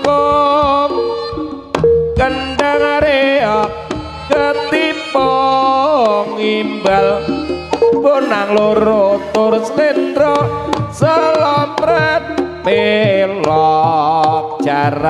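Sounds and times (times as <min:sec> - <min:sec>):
sliding melody line: 0:00.0 - 0:15.0
steady held tones: 0:00.0 - 0:15.0.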